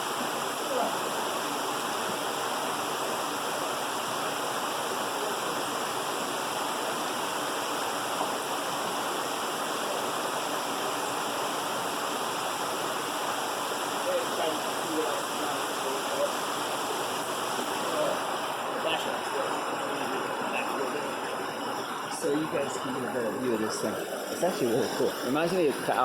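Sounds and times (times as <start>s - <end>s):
stream rushing down waterfall: 0.0s - 26.0s.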